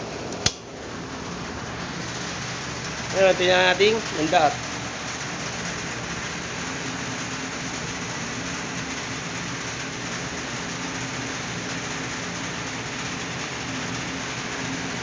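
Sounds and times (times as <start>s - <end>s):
even hiss: 0.0s - 15.0s
machinery hum: 0.0s - 15.0s.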